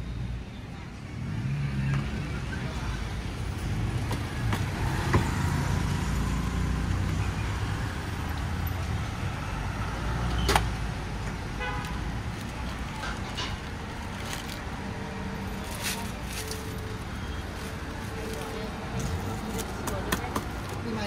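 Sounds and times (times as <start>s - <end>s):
cars and motorbikes rumbling: 0.0s - 21.0s.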